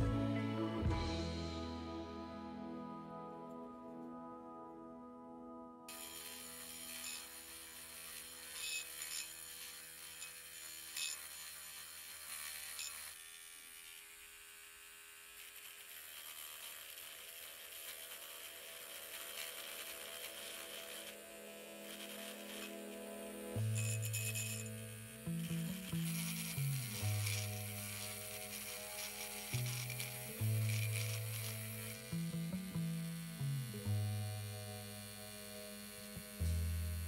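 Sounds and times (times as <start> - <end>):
small electric motor buzzing: 5.9 - 37.0.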